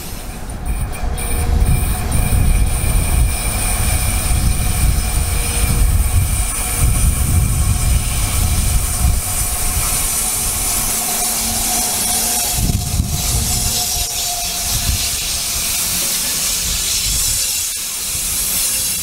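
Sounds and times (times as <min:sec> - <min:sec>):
freight train rumble: 0:00.0 - 0:19.0
wheels hissing on rail: 0:00.0 - 0:19.0.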